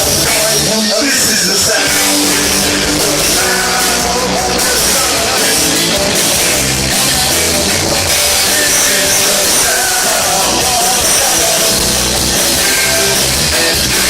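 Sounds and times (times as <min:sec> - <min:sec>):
live punk rock band: 0:00.0 - 0:14.0.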